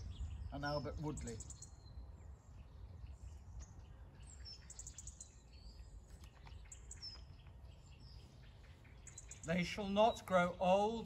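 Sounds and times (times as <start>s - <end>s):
songbird chirps: 0.0s - 11.0s.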